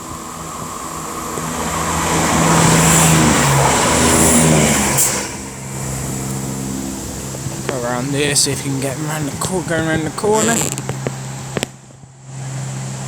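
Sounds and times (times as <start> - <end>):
diesel train engines passing: 0.0 - 13.0
wheels rumbling on rail: 0.0 - 13.0.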